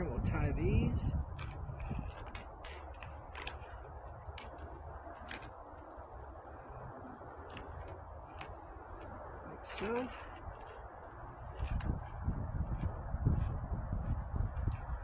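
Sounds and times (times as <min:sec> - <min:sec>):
low background rumble: 0:00.0 - 0:15.0
hands clicking and tapping cord: 0:00.8 - 0:15.0.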